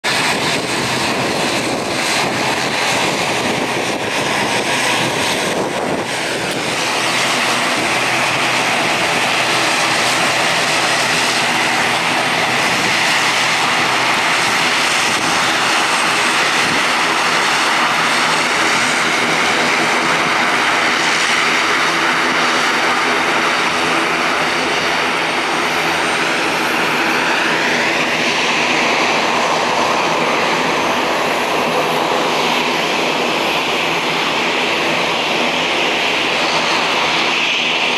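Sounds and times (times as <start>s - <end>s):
propeller drone: 0.0s - 37.9s
turbine whine: 0.0s - 37.9s.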